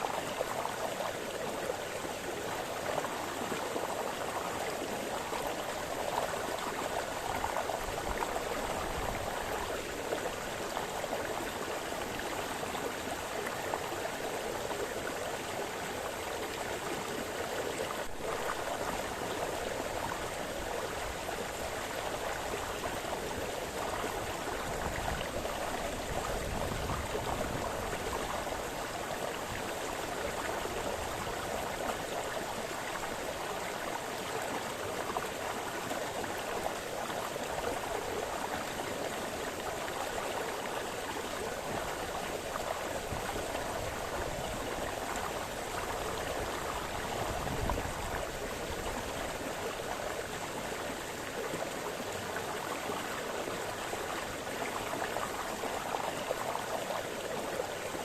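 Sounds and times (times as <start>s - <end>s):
brook burbling over stones: 0.0s - 58.0s.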